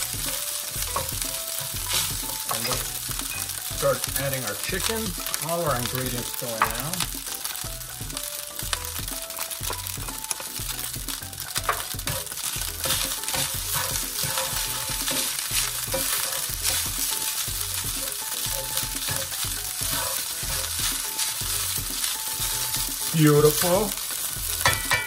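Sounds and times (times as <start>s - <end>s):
rice sizzling in a skillet: 0.0s - 25.0s
spatula scraping pan: 0.0s - 25.0s.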